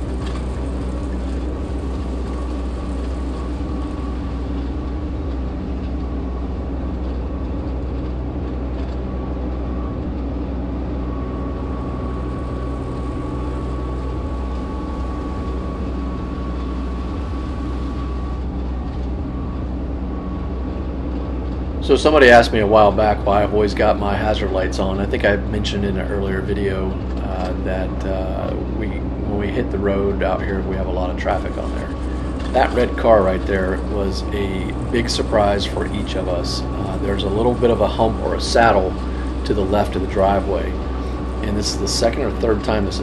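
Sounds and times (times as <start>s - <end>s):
thin steady whine: 0.0s - 43.0s
tractor diesel engine running: 0.0s - 43.0s.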